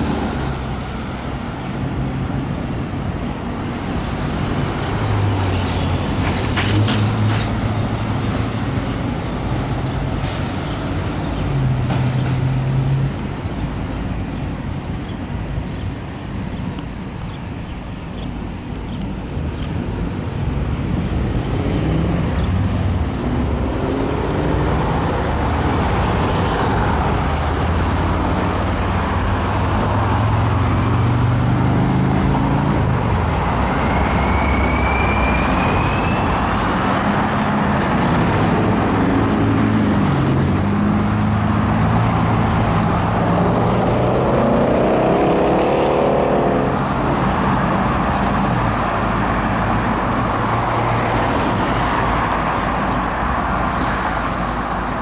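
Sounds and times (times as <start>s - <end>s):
road traffic driving past: 0.0s - 55.0s.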